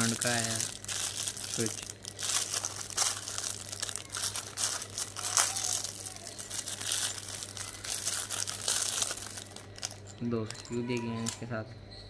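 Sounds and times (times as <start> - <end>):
plastic packaging crinkling: 0.0 - 11.4
steady low hum: 0.0 - 12.0.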